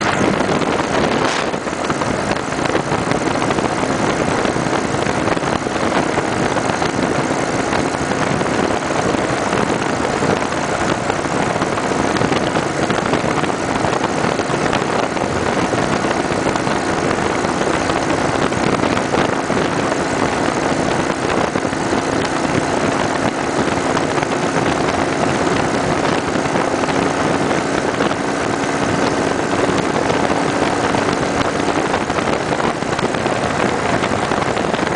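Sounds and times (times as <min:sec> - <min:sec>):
motorcycle engine hum: 0:00.0 - 0:34.9
wind and road noise: 0:00.0 - 0:34.9.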